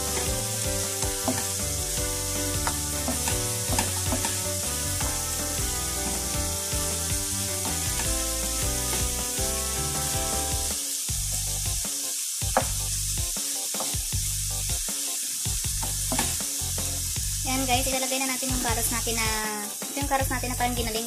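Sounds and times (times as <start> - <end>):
music with bass beat: 0.0 - 17.9, 18.5 - 19.4, 20.0 - 21.0
vegetables sizzling in a pan: 0.0 - 21.0.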